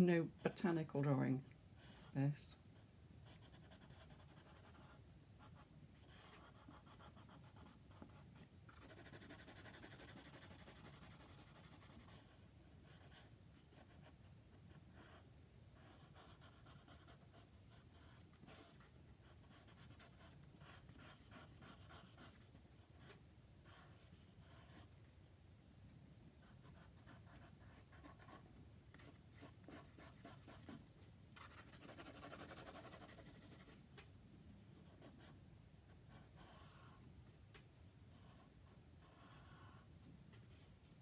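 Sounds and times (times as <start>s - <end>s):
pencil scratching on paper: 1.8s - 2.3s, 3.2s - 24.9s, 26.4s - 30.8s, 31.4s - 33.8s, 34.8s - 37.0s, 38.1s - 40.7s.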